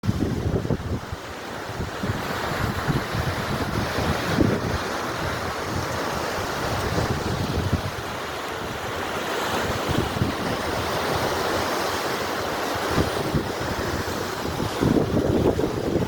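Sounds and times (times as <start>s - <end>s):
sea surf washing in: 0.0s - 16.0s
wind buffeting microphone: 0.0s - 16.0s.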